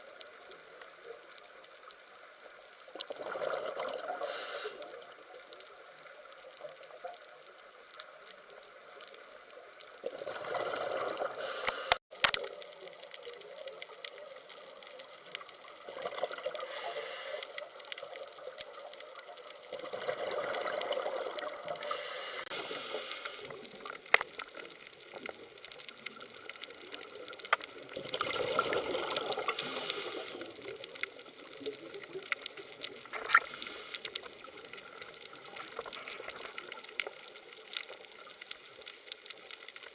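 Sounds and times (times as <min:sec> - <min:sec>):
water trickling and gurgling: 0:02.7 - 0:07.2, 0:09.8 - 0:39.9.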